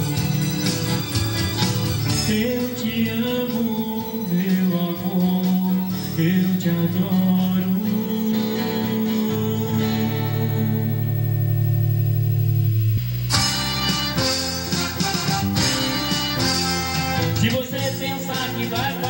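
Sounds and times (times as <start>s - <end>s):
acoustic guitar strumming: 0.0s - 19.0s
held backing chords: 0.0s - 19.0s.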